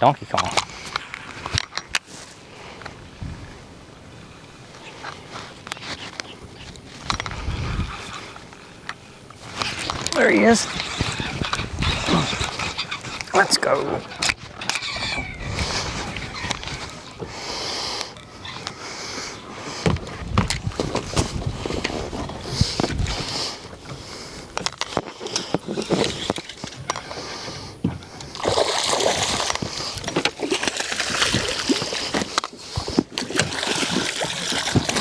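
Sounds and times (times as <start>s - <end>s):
water splashing and sloshing: 5.0s - 35.0s.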